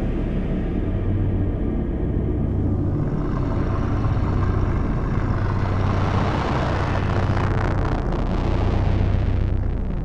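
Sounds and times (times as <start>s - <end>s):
dark ambient music drone: 0.0s - 10.0s.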